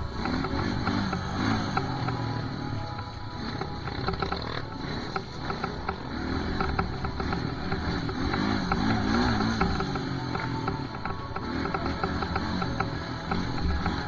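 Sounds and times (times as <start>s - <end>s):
clicking and clattering: 0.0s - 14.0s
dirt bike engine revving: 0.0s - 14.0s.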